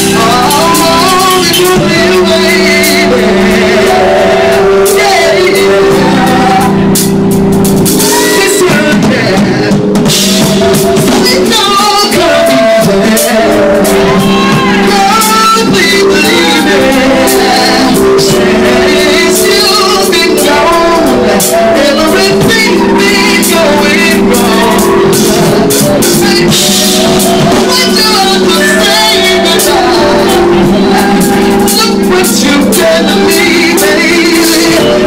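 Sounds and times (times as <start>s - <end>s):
man singing into a microphone: 0.0s - 7.2s, 8.0s - 35.0s
drum kit: 0.0s - 35.0s
keyboards: 0.0s - 35.0s.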